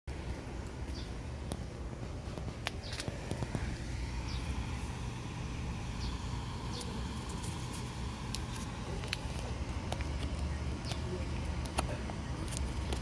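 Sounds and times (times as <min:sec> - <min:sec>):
distant road traffic: 0:00.1 - 0:13.0.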